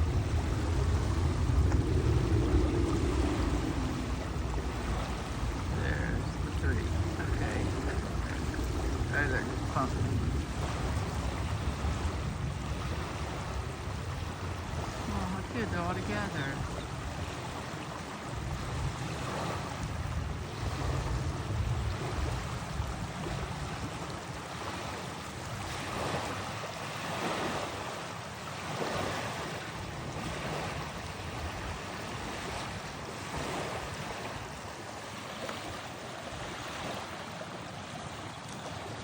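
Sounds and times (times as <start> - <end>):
lake water lapping: 0.0 - 39.0.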